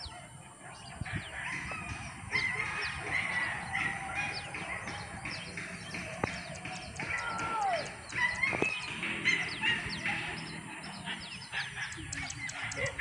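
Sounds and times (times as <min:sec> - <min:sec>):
hunting dogs yelping and baying: 0:00.0 - 0:13.0.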